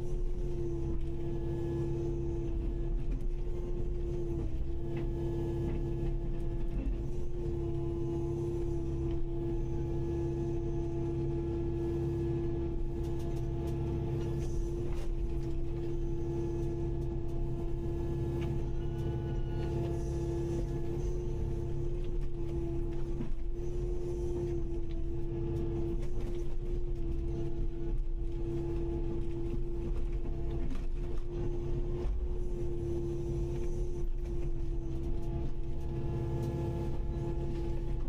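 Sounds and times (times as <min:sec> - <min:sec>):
excavator engine humming: 0:00.0 - 0:38.0.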